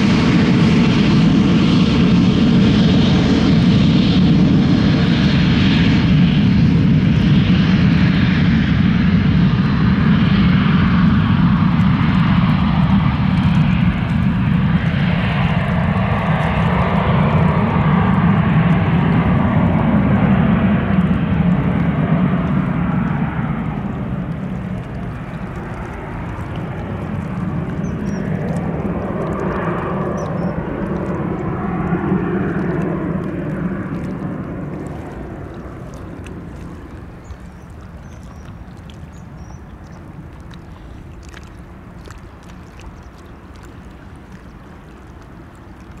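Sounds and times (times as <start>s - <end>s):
jet engine rumble: 0.0s - 46.0s.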